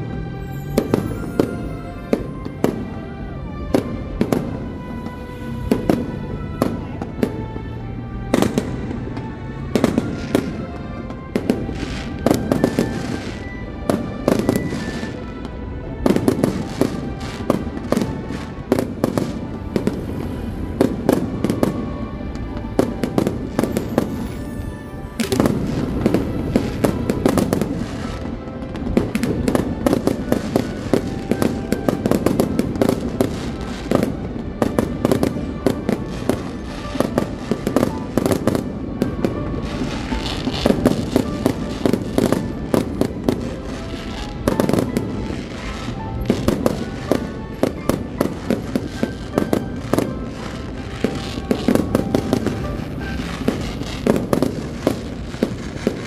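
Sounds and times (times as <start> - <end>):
fireworks bangs and crackling: 0.0 - 56.0
music playing: 0.0 - 56.0.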